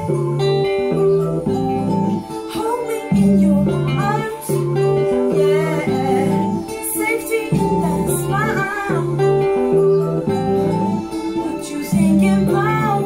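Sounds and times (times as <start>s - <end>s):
acoustic guitar: 0.0s - 13.0s
electric guitar: 0.0s - 13.0s
woman singing: 0.0s - 13.0s.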